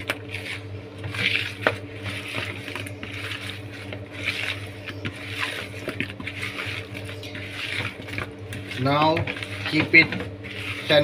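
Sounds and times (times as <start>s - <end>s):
hands squelching fish in marinade: 0.0s - 11.0s
steady low hum: 0.0s - 11.0s.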